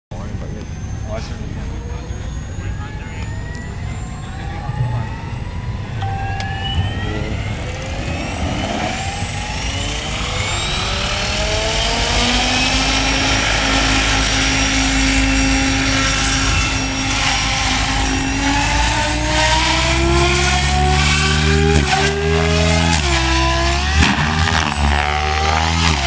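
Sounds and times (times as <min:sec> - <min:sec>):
deep rotor hum: 0:00.1 - 0:26.0
model helicopter motor whine: 0:00.2 - 0:26.0.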